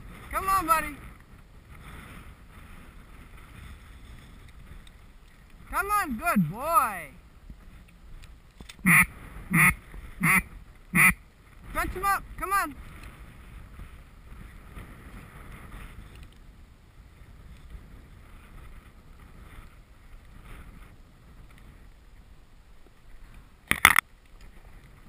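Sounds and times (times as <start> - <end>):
wind buffeting microphone: 0.0 - 23.7.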